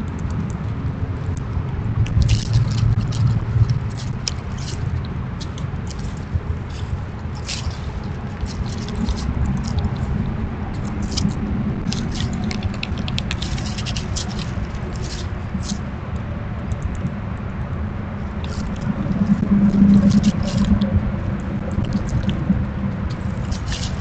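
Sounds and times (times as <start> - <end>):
low rumble: 0.0 - 24.0
squirrel scratching and nibbling: 0.0 - 24.0.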